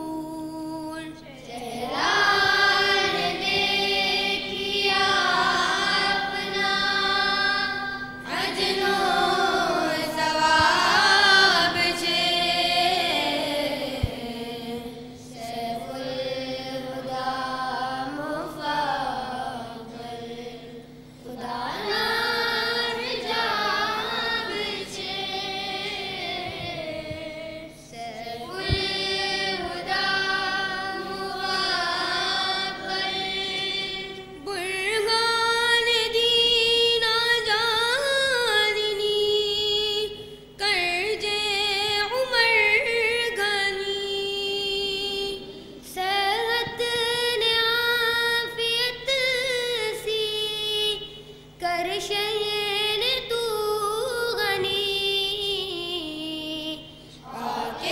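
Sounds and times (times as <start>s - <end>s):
students singing devotional song: 0.0s - 57.9s.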